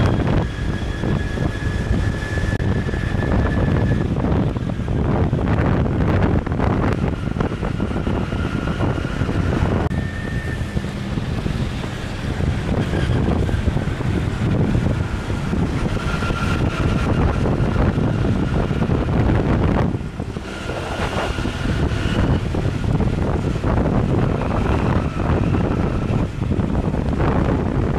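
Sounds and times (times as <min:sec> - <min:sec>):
motorbike engine: 0:00.0 - 0:27.9
traffic noise: 0:00.0 - 0:27.9
wind buffeting microphone: 0:00.0 - 0:27.9.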